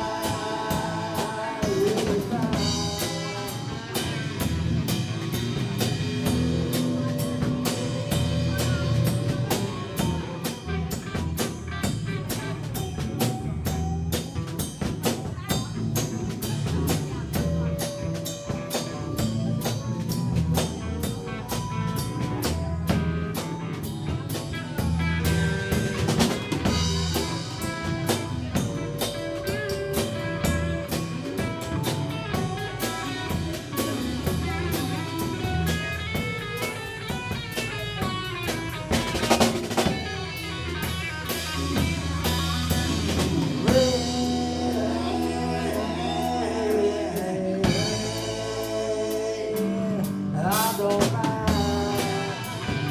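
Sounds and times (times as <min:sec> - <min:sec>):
drum kit beat: 0:00.0 - 0:52.9
electric guitars: 0:00.0 - 0:52.9.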